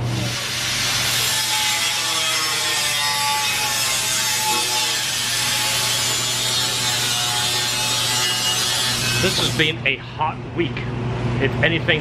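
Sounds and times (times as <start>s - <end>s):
grinder cutting metal tube: 0.0s - 9.6s.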